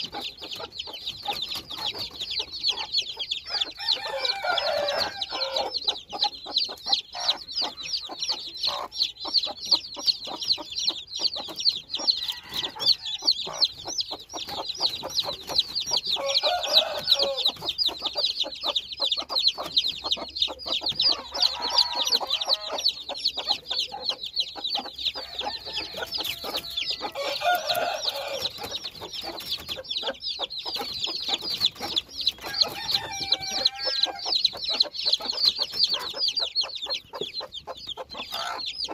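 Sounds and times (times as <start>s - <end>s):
chicks peeping: 0.0s - 38.9s
hen clucking: 0.0s - 38.9s.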